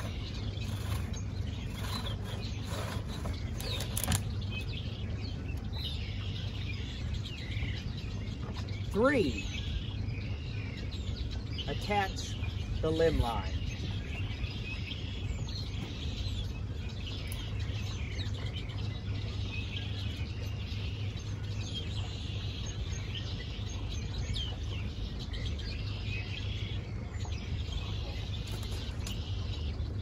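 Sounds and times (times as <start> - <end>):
small birds chirping: 0.0 - 30.0
steady low hum: 0.0 - 30.0.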